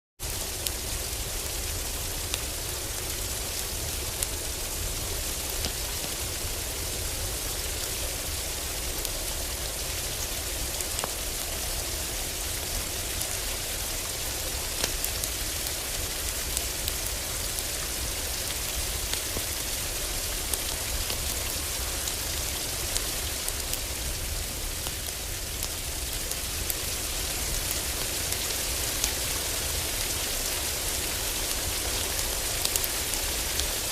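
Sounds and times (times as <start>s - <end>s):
heavy rain drumming on a roof: 0.2s - 33.9s
wood fire crackling and popping: 0.5s - 33.9s.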